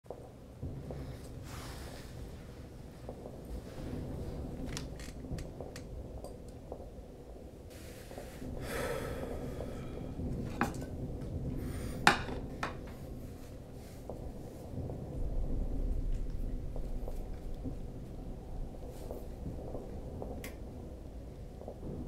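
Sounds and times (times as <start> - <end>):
room hum: 0.1 - 22.0.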